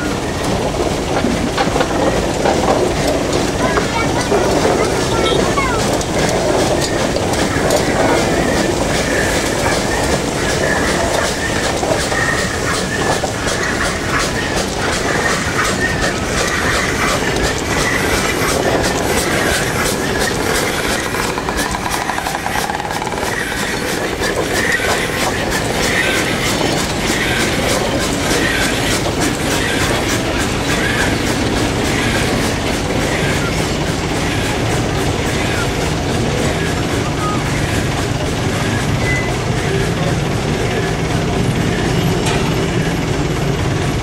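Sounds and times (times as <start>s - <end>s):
steam locomotive working: 0.0s - 44.0s
wagon wheels clattering over rail joints: 0.0s - 44.0s
wheel squeal: 3.0s - 37.8s, 38.4s - 39.9s.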